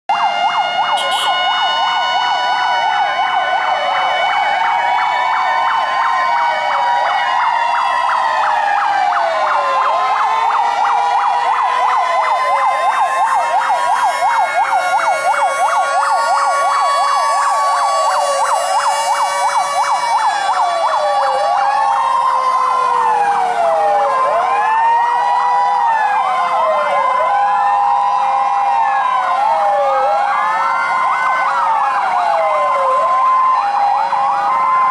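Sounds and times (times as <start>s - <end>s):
fire truck sirens wailing: 0.1s - 34.9s
siren yelps: 0.1s - 34.9s
two-tone hi-lo siren: 0.1s - 34.9s.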